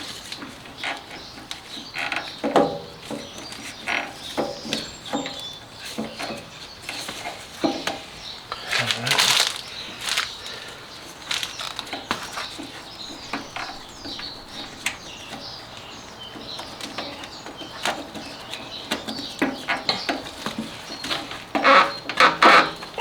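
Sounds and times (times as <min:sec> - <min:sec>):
hand tools clicking and rattling: 0:00.3 - 0:23.0.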